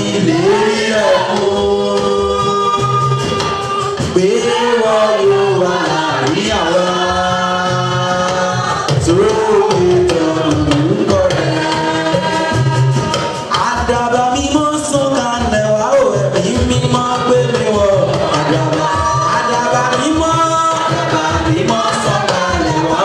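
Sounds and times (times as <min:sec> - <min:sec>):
women's choir singing: 0:00.0 - 0:13.6, 0:17.8 - 0:23.0
instrumental accompaniment: 0:00.0 - 0:23.0
lead singer: 0:00.0 - 0:23.0.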